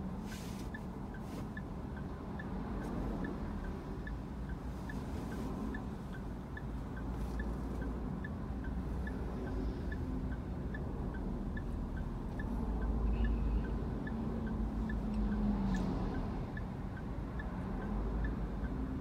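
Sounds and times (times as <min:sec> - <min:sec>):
traffic rumble: 0:00.0 - 0:19.0
turn signal ticking: 0:00.0 - 0:19.0.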